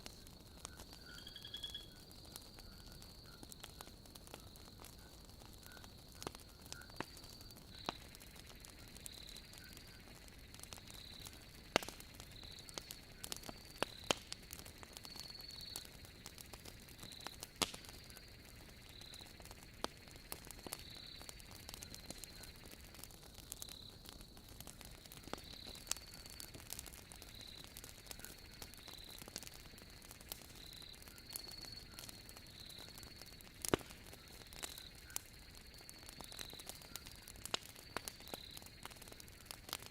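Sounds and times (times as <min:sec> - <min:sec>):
crickets chirping: 0:00.0 - 0:39.9
fire crackling and popping: 0:00.0 - 0:39.9.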